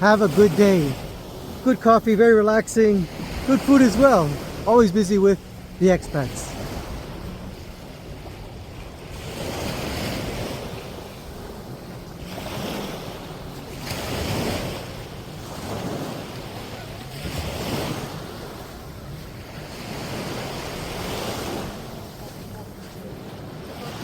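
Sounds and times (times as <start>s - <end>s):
waves breaking on shore: 0.0s - 24.0s
wind buffeting microphone: 0.0s - 24.0s.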